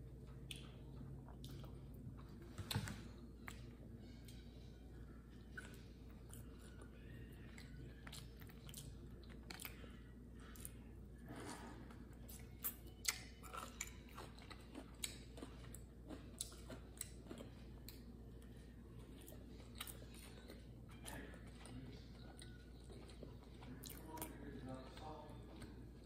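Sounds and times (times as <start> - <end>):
person chewing: 0.1 - 4.4, 5.3 - 26.0.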